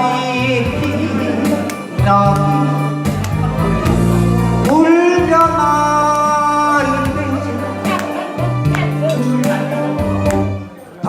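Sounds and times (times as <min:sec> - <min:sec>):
instrumental accompaniment: 0:00.0 - 0:11.0
person singing pop song: 0:00.0 - 0:11.0.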